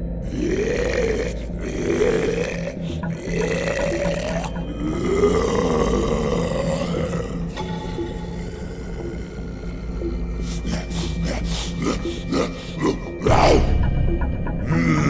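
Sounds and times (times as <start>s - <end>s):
rasping monster growls: 0.2s - 13.7s, 14.6s - 15.0s.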